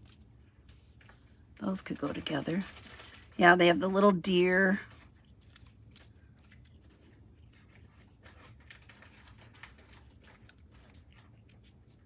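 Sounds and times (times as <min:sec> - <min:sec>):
faint paper rustles: 0:00.0 - 0:12.0.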